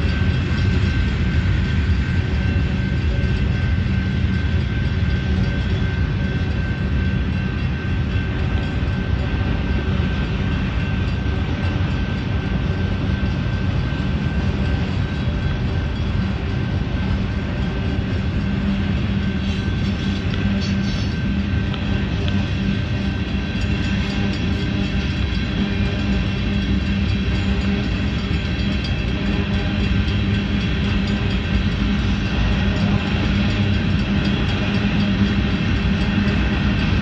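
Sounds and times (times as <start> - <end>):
freight train rumbling on rails: 0.0 - 37.0
thin steady whine: 0.0 - 37.0.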